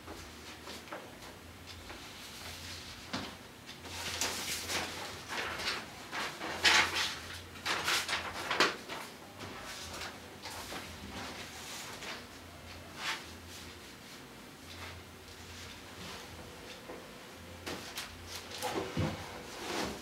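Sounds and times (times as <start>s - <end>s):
paper rustling: 0.6s - 16.8s.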